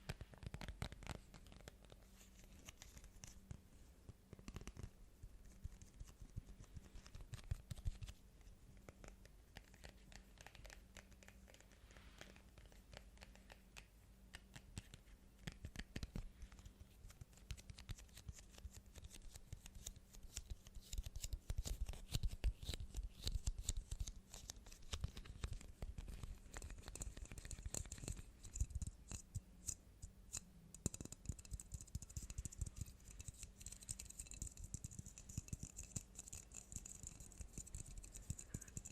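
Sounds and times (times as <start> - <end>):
tapping and scratching on objects: 0.0 - 3.6, 8.8 - 38.9.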